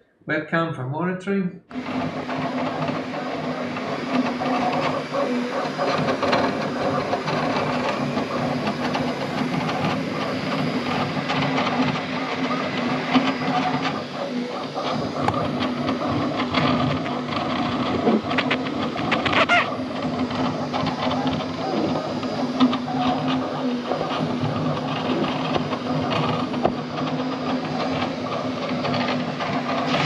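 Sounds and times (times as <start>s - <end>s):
printer fans and motors humming: 1.7s - 30.0s
rapid clattering clicks: 1.7s - 30.0s.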